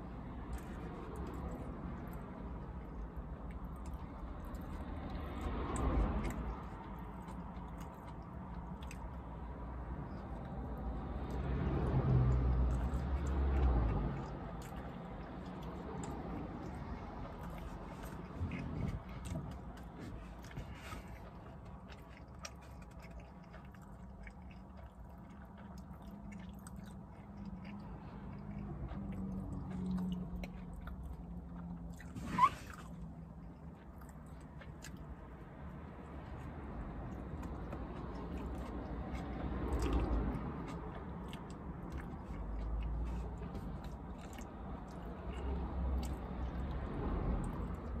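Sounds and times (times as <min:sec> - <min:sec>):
low vehicle rumble: 0:00.0 - 0:48.0
person chewing a sandwich: 0:00.0 - 0:48.0.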